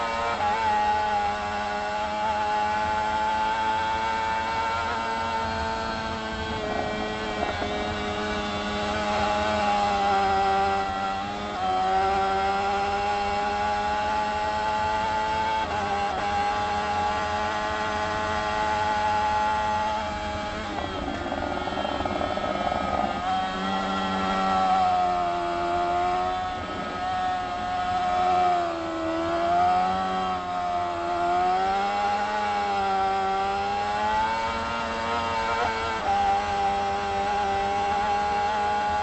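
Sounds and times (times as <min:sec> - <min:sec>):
motorcycle engine high revs: 0:00.0 - 0:39.0.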